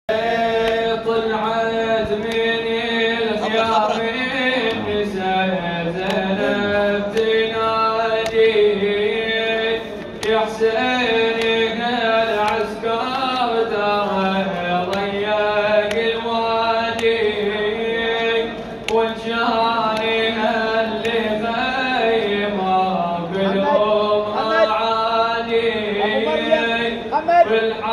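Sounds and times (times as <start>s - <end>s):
man chanting into microphone: 0.1s - 27.9s.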